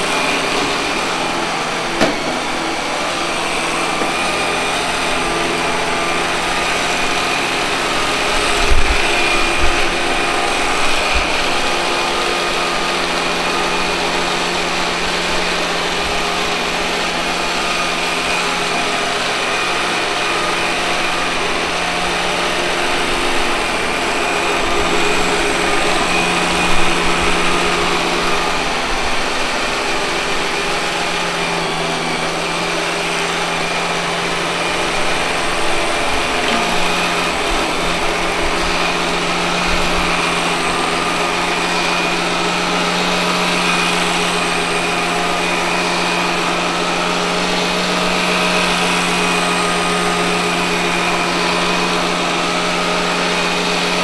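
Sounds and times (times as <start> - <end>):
robot vacuum cleaner humming: 0.0 - 54.0.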